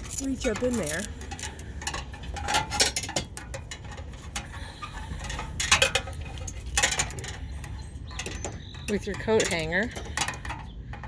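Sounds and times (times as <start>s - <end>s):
wire hanger scraping against metal: 0.0s - 11.0s.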